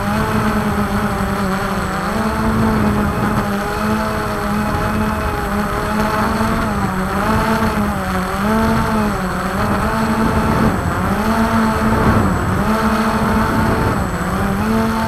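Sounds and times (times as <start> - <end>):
drone propellers humming: 0.0 - 15.0
wind on microphone: 0.0 - 15.0.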